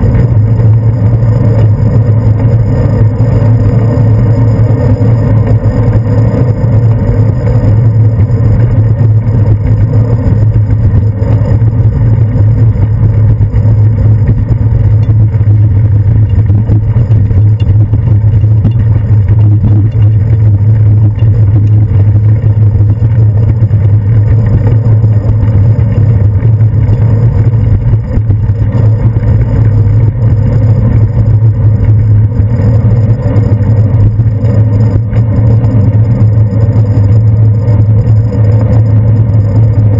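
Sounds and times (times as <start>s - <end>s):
rattle of road jolts: 0.0s - 39.0s
bicycle road rumble: 0.0s - 39.9s
wind on microphone: 0.0s - 39.9s.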